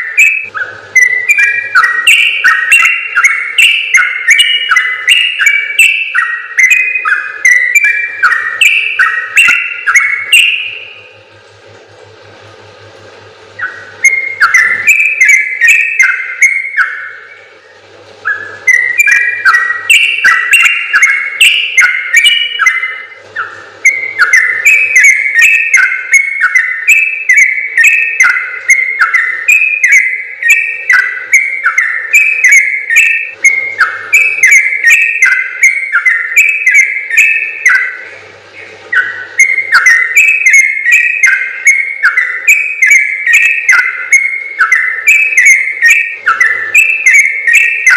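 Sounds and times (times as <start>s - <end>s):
bulbul singing bubbly song: 0.0s - 47.9s.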